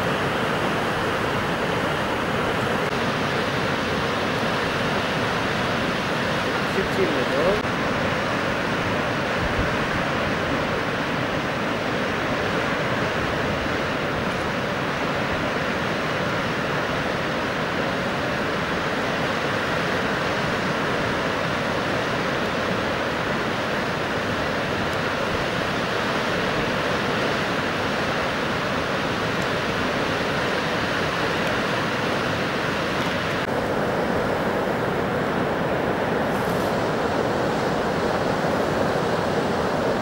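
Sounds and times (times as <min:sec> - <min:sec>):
fast-flowing river roaring: 0:00.0 - 0:40.0.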